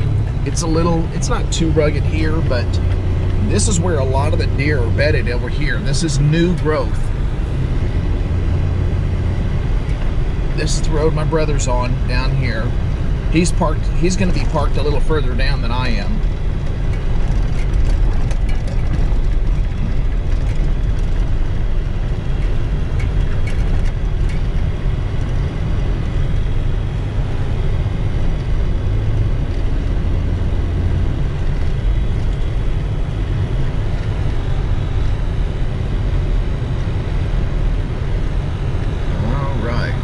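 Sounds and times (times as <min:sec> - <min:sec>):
vehicle engine and road rumble: 0:00.0 - 0:40.0.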